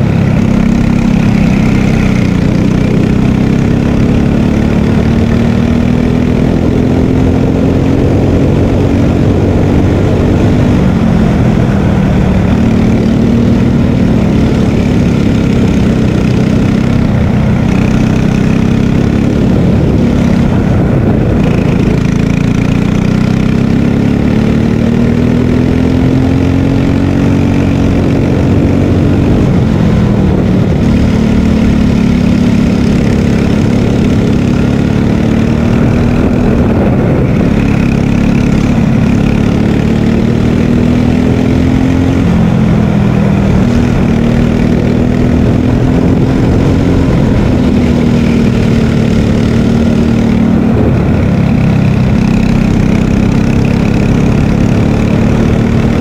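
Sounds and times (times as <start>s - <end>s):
kart engine at full throttle: 0.0s - 56.0s.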